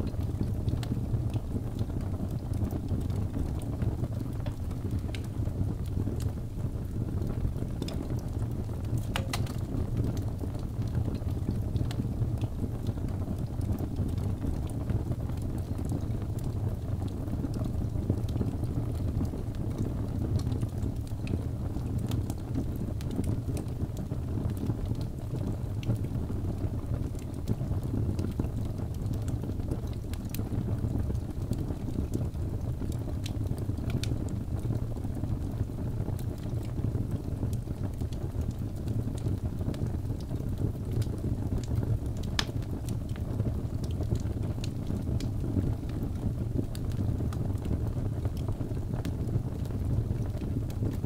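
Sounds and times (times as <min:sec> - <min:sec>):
fire crackling and popping: 0:00.0 - 0:51.0
fire rumbling: 0:00.0 - 0:51.0.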